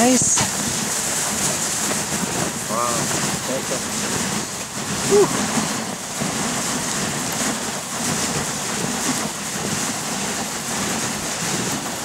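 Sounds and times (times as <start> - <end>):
dog sled running over snow: 0.0 - 12.0.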